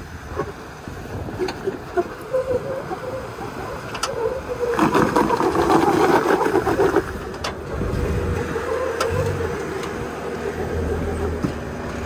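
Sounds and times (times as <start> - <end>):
vehicle engine working: 0.0 - 12.0.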